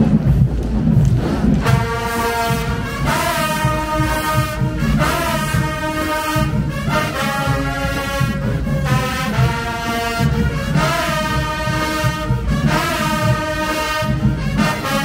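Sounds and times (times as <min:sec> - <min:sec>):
brass chords: 0:00.0 - 0:15.0
drums: 0:00.0 - 0:15.0.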